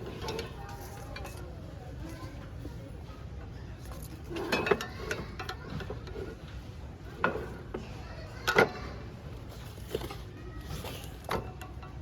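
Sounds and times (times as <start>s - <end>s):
utensils and dishes clinking: 0.0s - 2.9s, 3.7s - 12.0s.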